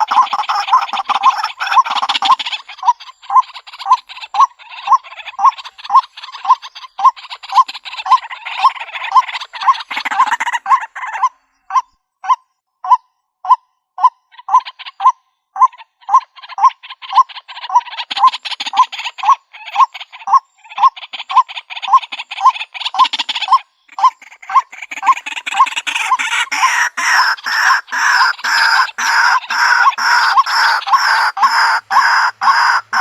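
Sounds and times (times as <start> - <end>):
harsh bird chattering: 0.0 - 13.0, 14.0 - 33.0
waterhen repeated call: 0.0 - 33.0.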